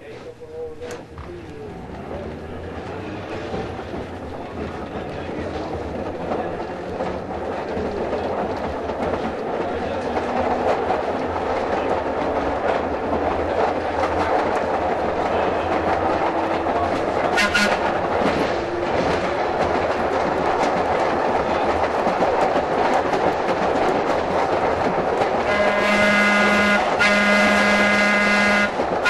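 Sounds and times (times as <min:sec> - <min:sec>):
streetcar rumbling on track: 0:00.0 - 0:29.0
rail joint clicks: 0:00.1 - 0:29.0.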